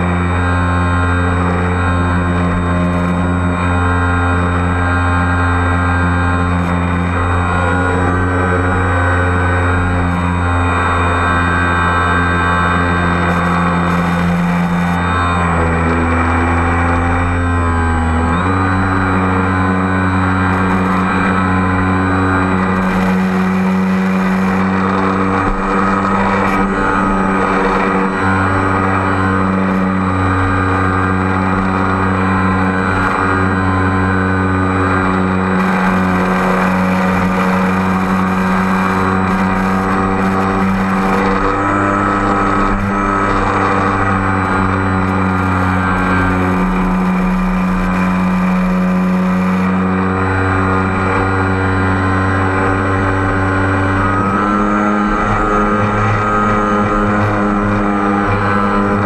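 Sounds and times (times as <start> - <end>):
drone motors humming: 0.0 - 59.0.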